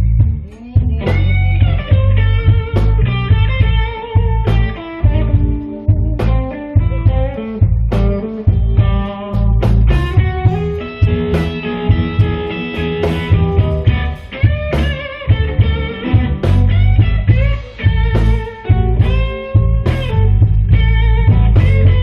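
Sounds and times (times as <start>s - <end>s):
blues band playing: 0.0s - 22.0s
electric guitar lead: 0.0s - 22.0s.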